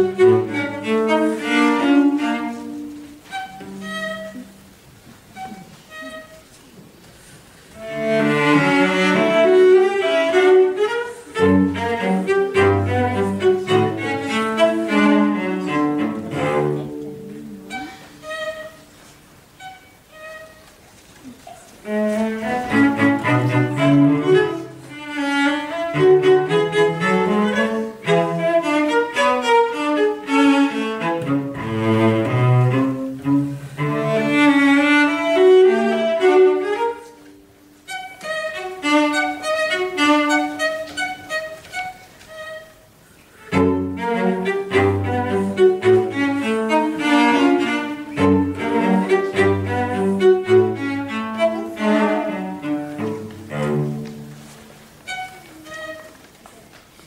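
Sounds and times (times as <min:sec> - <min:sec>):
cello ensemble playing: 0:00.0 - 0:57.0.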